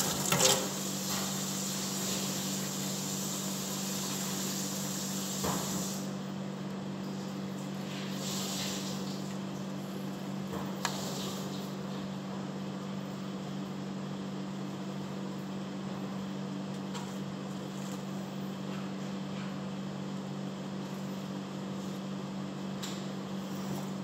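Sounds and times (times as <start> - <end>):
kitchen machine hum: 0.0 - 24.0.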